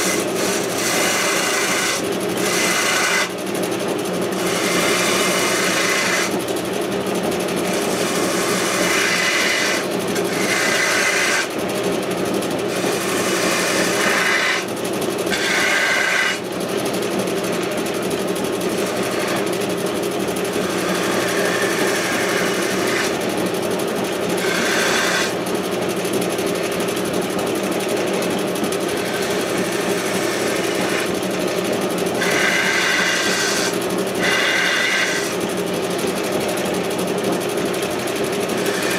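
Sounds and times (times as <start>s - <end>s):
gouge scraping spinning wood: 0.0s - 38.9s
lathe motor hum: 0.0s - 38.9s.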